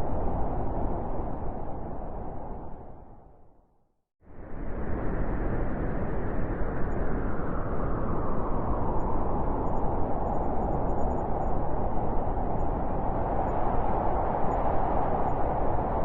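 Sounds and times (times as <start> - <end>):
howling blizzard wind: 0.0 - 3.6, 4.3 - 16.0.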